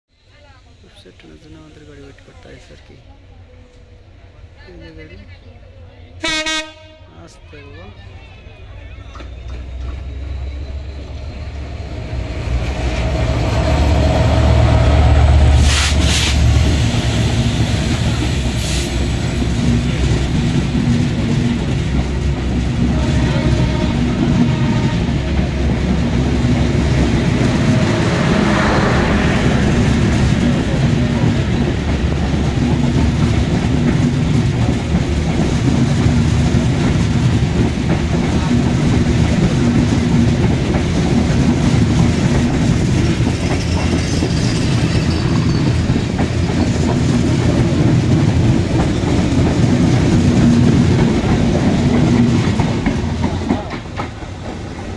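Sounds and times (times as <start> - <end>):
train passing rumble: 0.1 - 54.9.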